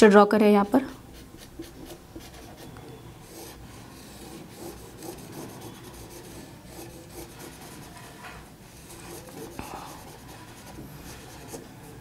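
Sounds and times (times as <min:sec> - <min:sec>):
marker scratching on whiteboard: 0:00.9 - 0:12.0.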